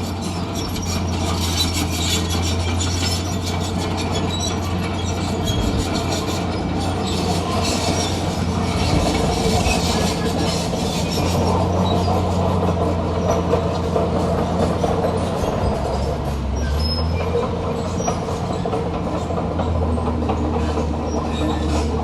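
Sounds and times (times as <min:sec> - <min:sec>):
diesel engine running: 0:00.0 - 0:22.0
steel tracks squealing and clanking: 0:00.0 - 0:22.0.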